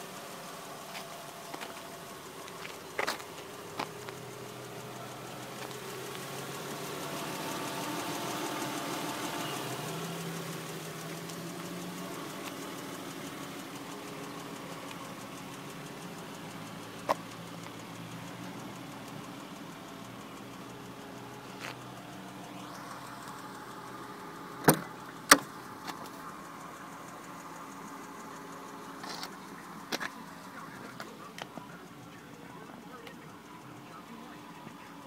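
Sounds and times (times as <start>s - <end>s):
car engine idling: 0.0s - 35.0s
sharp clicks: 0.0s - 35.0s.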